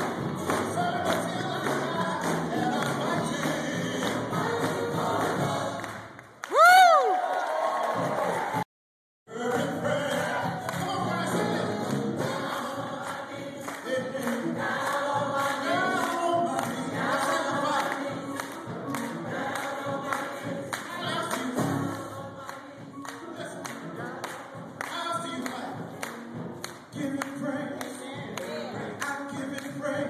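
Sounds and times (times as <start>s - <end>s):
choir singing gospel music: 0.0s - 6.4s, 7.8s - 8.6s, 9.3s - 30.0s.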